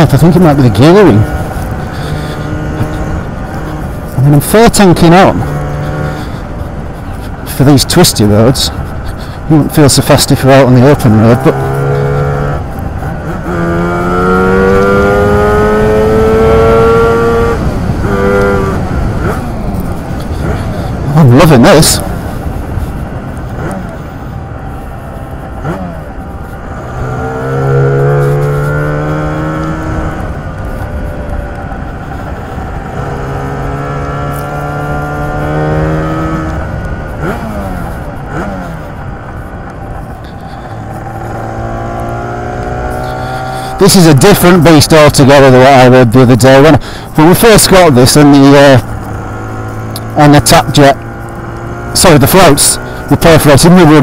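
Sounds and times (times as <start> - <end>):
scooter engine accelerating: 0.2 - 7.6, 10.8 - 44.9, 46.6 - 54.0.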